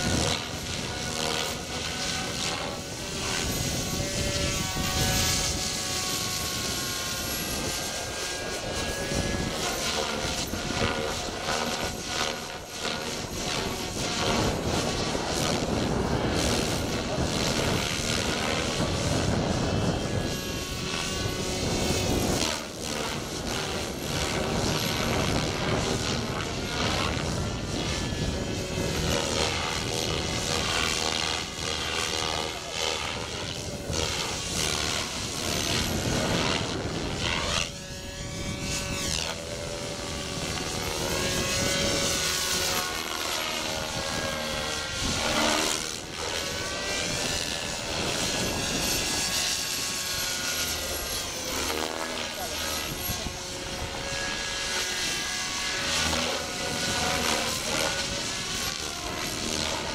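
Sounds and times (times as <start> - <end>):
model helicopter rotor and motor whine: 0.0 - 59.9.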